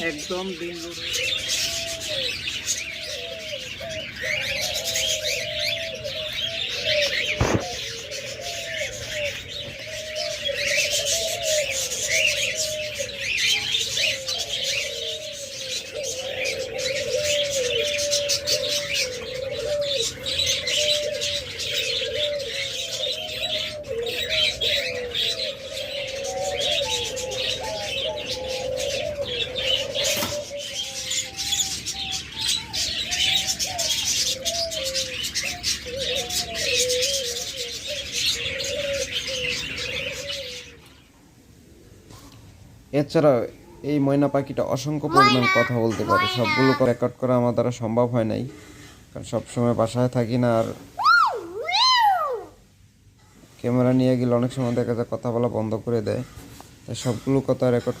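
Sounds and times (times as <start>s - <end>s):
doves cooing: 0.0s - 52.7s
cage birds chirping: 0.0s - 58.0s.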